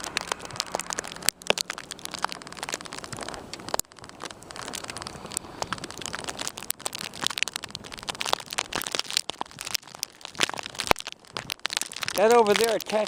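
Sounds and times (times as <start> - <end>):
plastic bag crinkling on microphone: 0.0 - 13.0.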